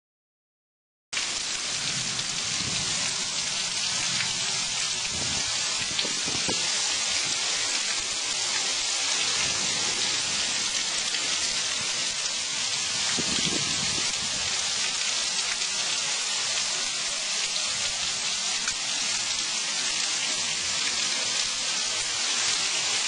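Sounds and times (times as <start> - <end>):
heavy rain pouring: 1.2 - 23.0.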